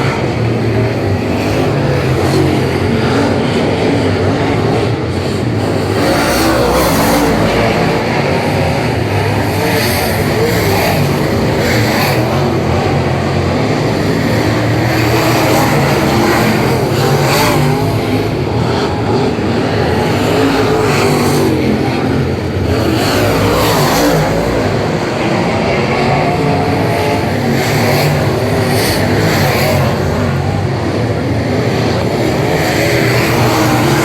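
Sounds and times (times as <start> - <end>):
racing car engines running hard: 0.0 - 34.0.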